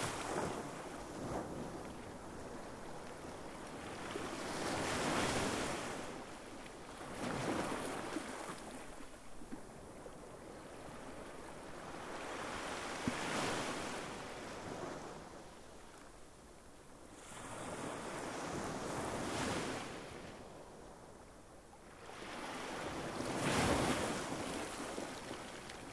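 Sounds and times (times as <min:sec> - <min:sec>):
small waves washing up a beach: 0:00.0 - 0:25.9.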